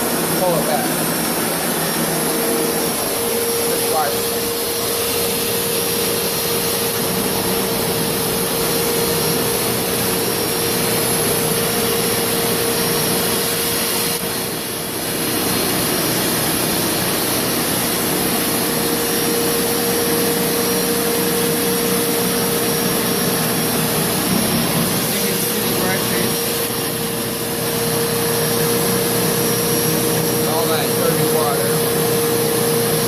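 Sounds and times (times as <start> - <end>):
carpet cleaner motor whining: 0.0 - 33.0.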